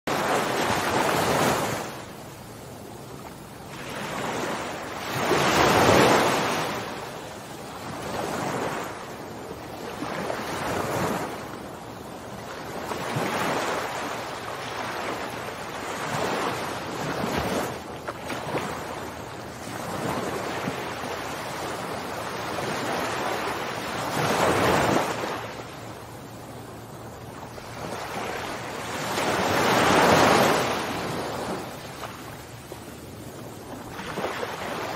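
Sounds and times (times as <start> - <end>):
ocean waves washing: 0.1 - 34.9.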